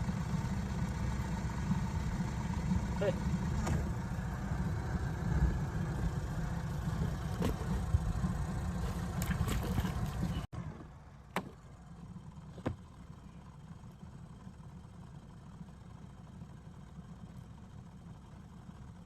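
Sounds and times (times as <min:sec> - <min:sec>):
boat motor rumbling: 0:00.0 - 0:19.0.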